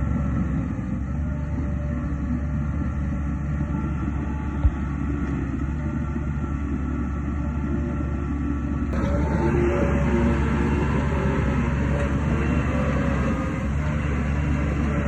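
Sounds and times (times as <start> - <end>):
diesel machinery droning: 0.0 - 15.0.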